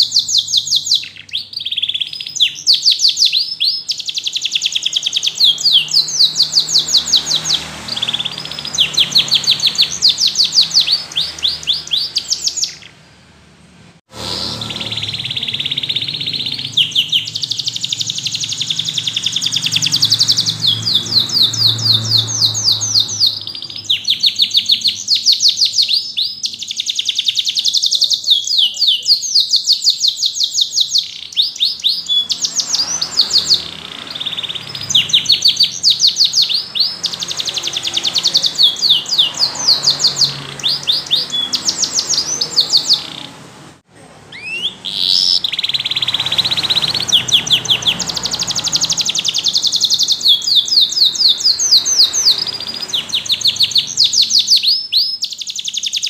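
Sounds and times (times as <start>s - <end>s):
canary singing trills: 0.0s - 13.4s, 14.0s - 56.0s.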